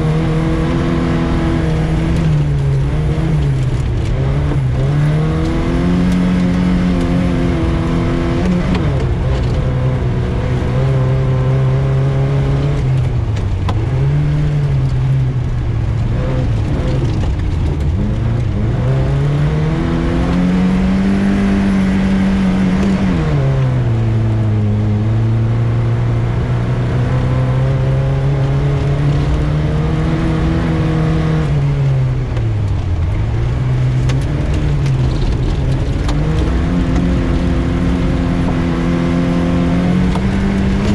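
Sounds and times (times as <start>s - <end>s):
low road rumble: 0.0s - 40.9s
rally car engine revving: 0.0s - 40.9s.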